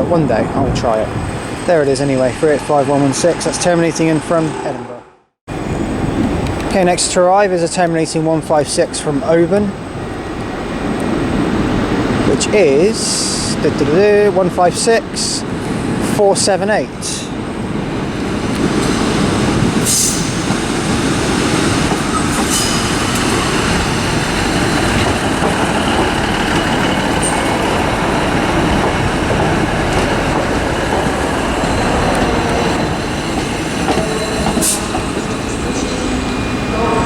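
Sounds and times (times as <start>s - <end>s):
diesel train rumbling: 0.0s - 37.0s.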